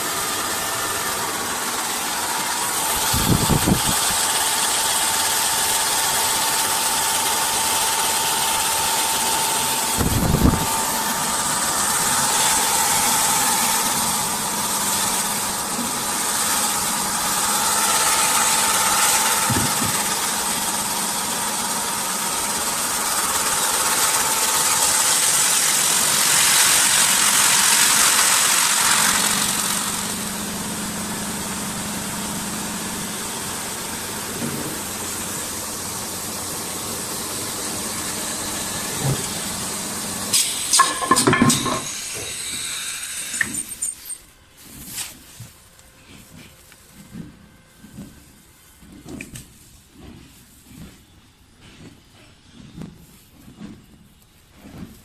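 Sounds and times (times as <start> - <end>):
electric motors whining: 0.0 - 44.8.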